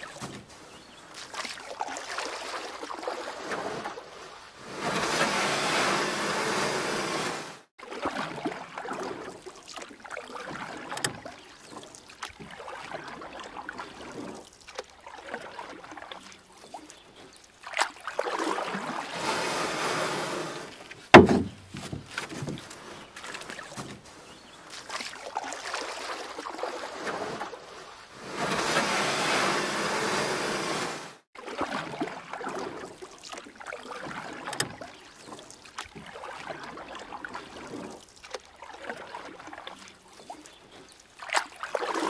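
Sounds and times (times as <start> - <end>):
paddle strokes splashing: 0.0 - 42.0
water sloshing along kayak hull: 0.0 - 42.0.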